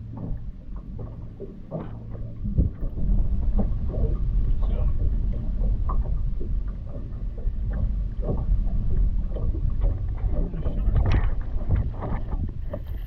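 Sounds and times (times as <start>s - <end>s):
water slapping boat hull: 0.0s - 13.0s
wind buffeting microphone: 1.8s - 13.0s.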